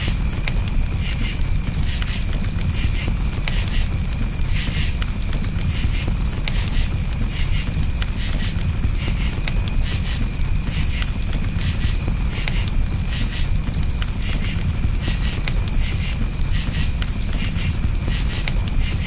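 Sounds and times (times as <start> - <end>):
campfire crackling: 0.0 - 19.0
crickets chirping: 0.0 - 19.0.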